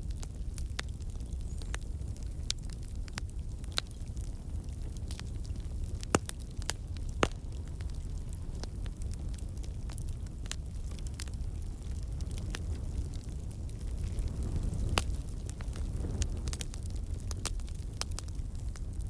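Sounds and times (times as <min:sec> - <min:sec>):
campfire crackling and popping: 0:00.0 - 0:19.0
low rumble of flames: 0:00.0 - 0:19.0.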